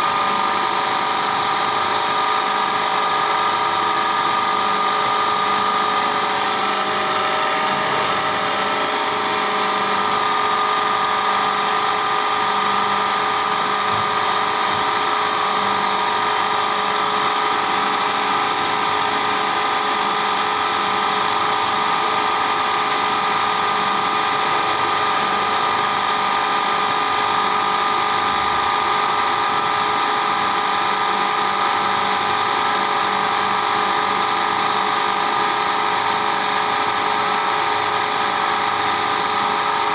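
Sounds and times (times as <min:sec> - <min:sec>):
milling machine high-pitched whine: 0:00.0 - 0:39.9.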